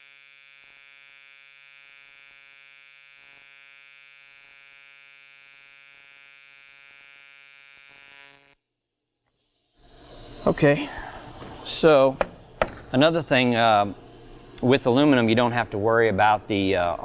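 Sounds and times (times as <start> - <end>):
welding arc buzzing: 0.0 - 17.0.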